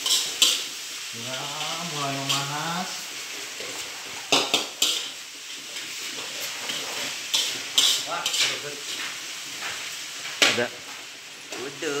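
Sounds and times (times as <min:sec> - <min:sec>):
metal utensil scraping wok: 0:00.0 - 0:12.0
rice sizzling in a wok: 0:00.0 - 0:12.0.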